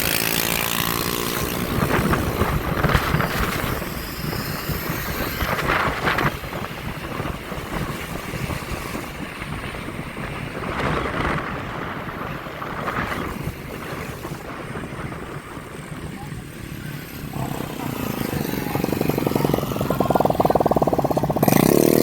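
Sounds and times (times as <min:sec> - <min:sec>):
low vehicle drone: 0:00.0 - 0:22.0
wind buffeting microphone: 0:00.0 - 0:22.0.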